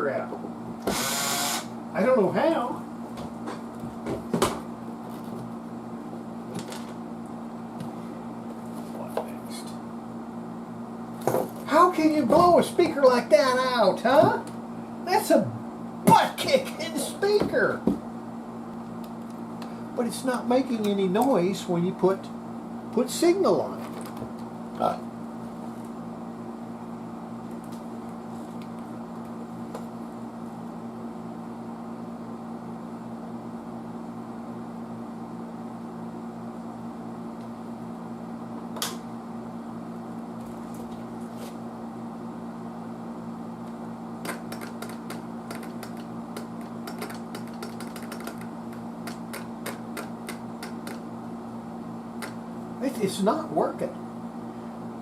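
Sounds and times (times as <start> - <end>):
steady low hum with tones: 0.0 - 55.0.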